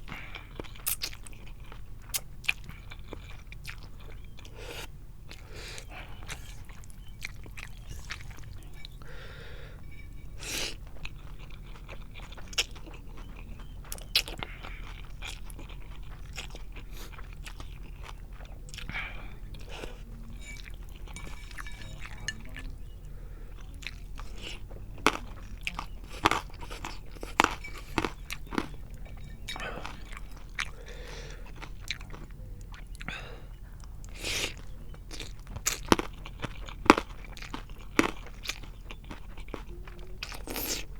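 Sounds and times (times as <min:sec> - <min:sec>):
close chewing and wet mouth sounds: 0:00.0 - 0:40.9.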